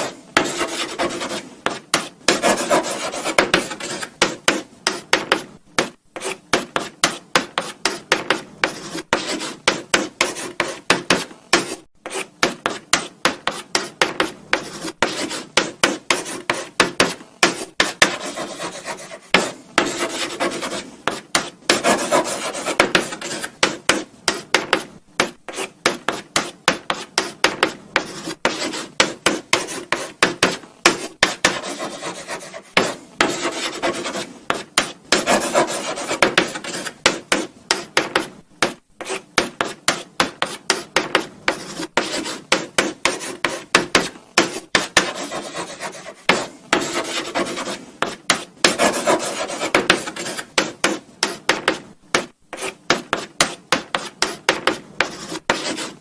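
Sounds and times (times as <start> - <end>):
chalk scratching on blackboard: 0.0 - 56.0.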